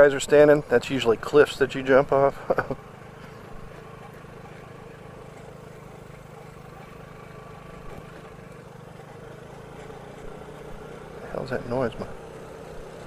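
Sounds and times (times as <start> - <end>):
scooter engine running: 0.0 - 13.0.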